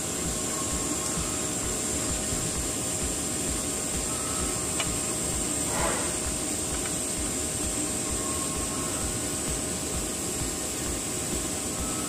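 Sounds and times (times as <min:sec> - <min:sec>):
welding arc hiss and buzz: 0:00.0 - 0:12.0.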